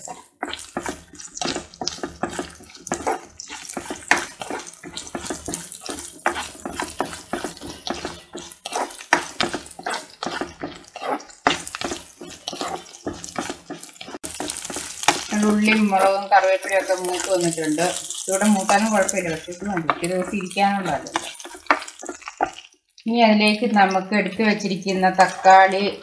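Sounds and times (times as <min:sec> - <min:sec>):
spatula scraping pan: 0:00.0 - 0:22.7, 0:23.8 - 0:26.0
vegetables sizzling in hot oil: 0:00.0 - 0:22.9.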